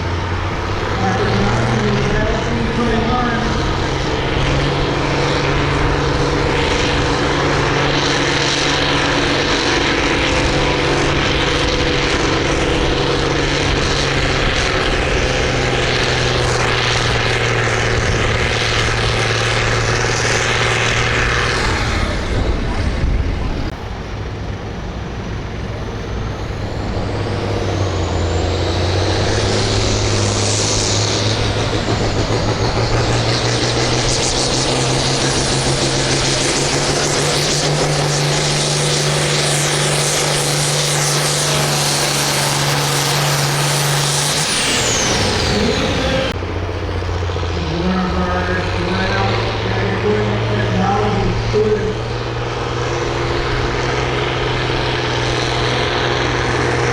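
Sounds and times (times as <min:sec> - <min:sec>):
high whine: 0:00.0 - 0:56.9
tractor engine running under load: 0:00.0 - 0:56.9.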